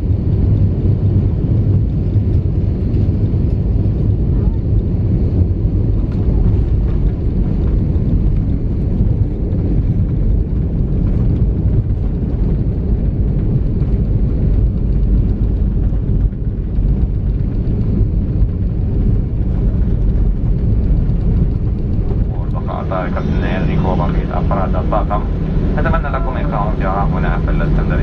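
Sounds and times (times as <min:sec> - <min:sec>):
jet airliner cabin rumble: 0:00.0 - 0:28.0.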